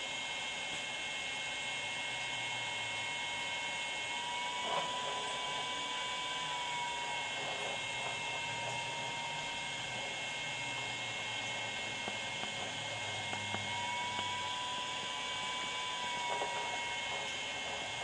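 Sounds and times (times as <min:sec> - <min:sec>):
electrical hum with high whine: 0:00.0 - 0:18.0.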